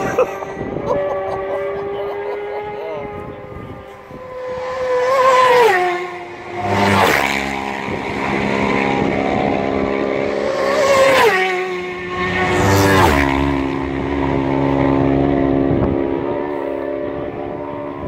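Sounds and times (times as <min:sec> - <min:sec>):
racing motorcycles passing: 0:00.0 - 0:18.0.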